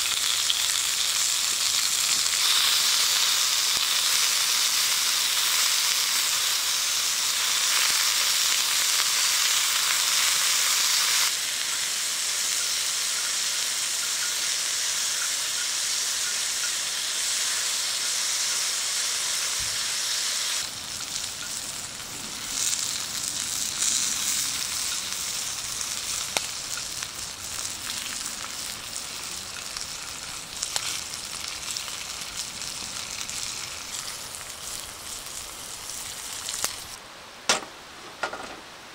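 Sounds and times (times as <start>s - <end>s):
food sizzling in a skillet: 0.0s - 37.0s.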